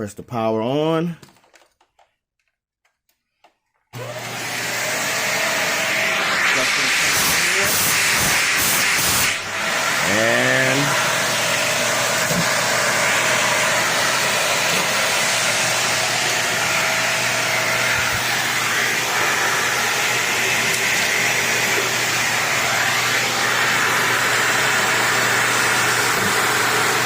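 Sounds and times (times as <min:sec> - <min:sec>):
vacuum cleaner running: 0:03.9 - 0:27.0.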